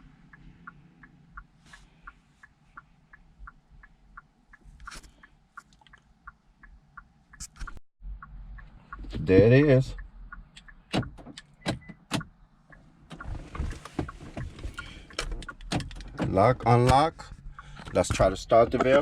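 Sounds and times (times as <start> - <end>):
steady light ticking: 0.0 - 13.3, 14.0 - 19.0.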